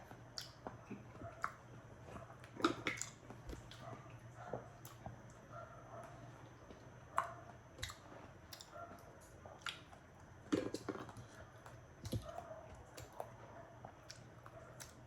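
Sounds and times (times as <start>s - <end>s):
wet chewing mouth sounds: 0.1s - 5.4s, 6.1s - 15.0s.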